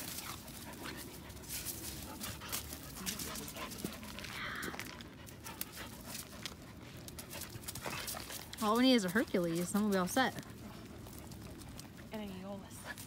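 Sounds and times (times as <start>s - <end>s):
dogs panting: 0.0s - 13.0s
dogs scuffling in mud: 0.0s - 13.0s.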